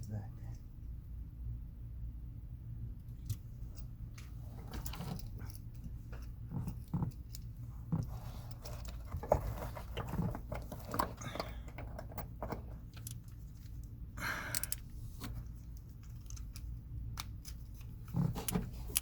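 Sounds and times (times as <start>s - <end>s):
low steady hum: 0.0s - 19.0s
hands handling parts and tools: 3.2s - 19.0s.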